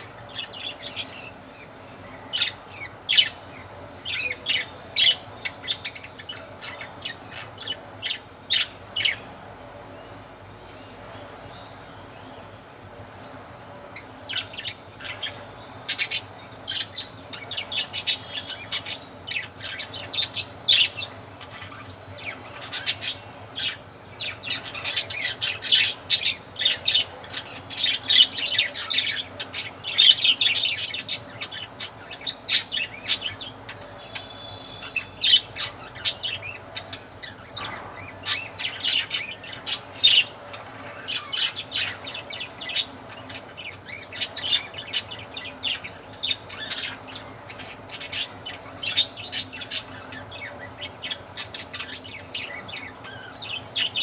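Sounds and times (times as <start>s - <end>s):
budgerigars chirping: 0.0s - 9.2s, 14.0s - 54.0s.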